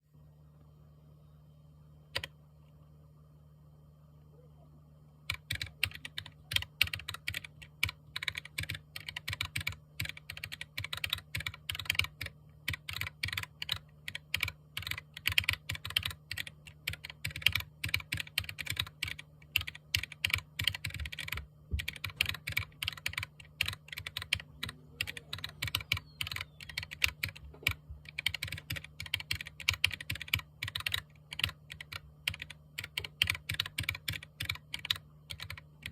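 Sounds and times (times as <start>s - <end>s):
steady low hum: 0.0s - 35.9s
mechanical keyboard typing: 5.3s - 35.9s.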